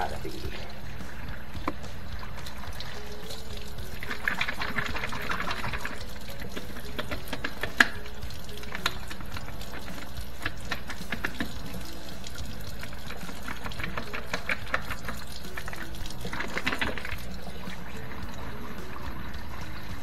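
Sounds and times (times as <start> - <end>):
water splashing and gurgling: 0.0 - 20.0.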